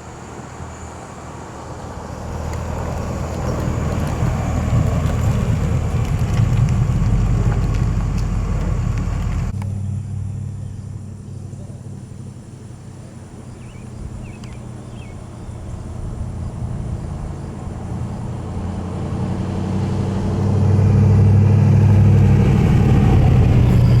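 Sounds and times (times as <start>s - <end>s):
car engine running at low revs: 1.6s - 24.0s.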